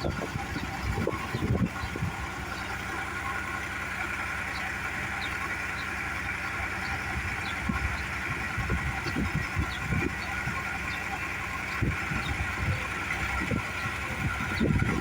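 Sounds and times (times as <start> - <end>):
low engine surges: 0.0 - 15.0
tractor diesel engine running: 0.0 - 15.0.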